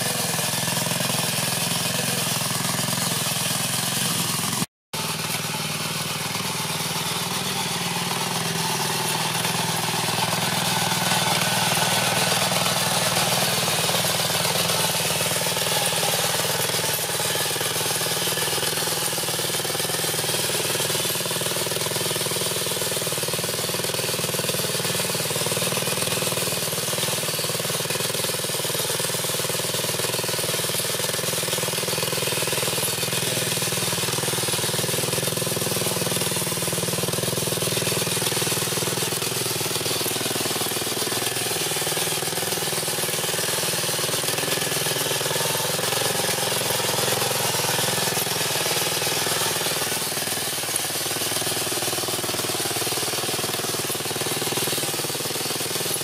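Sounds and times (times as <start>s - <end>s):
small gas engine running: 0.0s - 56.0s.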